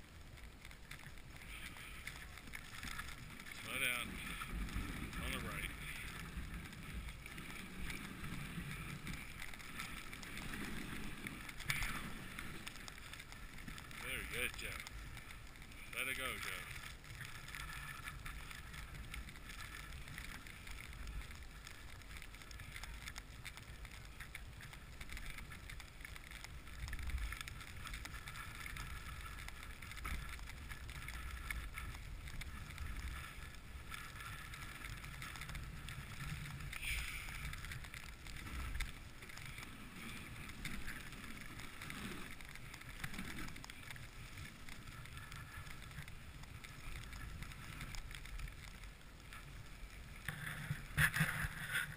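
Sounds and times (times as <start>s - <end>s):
sled runners sliding over snow: 0.0s - 51.9s.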